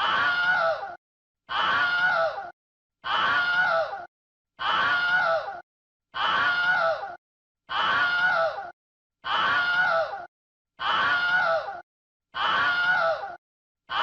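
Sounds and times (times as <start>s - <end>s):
human scream: 0.0s - 5.6s, 6.2s - 11.8s, 12.4s - 14.0s.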